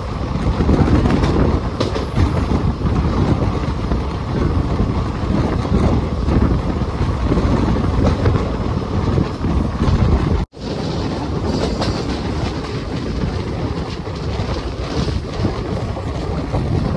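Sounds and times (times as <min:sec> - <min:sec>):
train wheels rumbling on rails: 0:00.0 - 0:16.9
faint rail clacks: 0:00.4 - 0:16.8.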